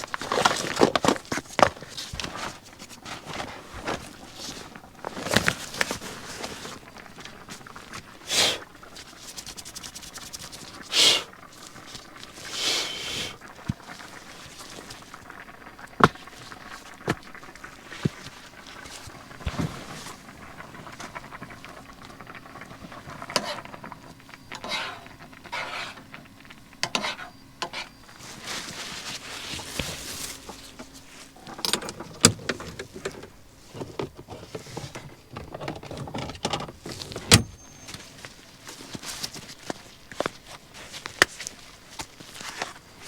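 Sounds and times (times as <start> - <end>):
objects rustling and scraping: 0.0 - 43.0.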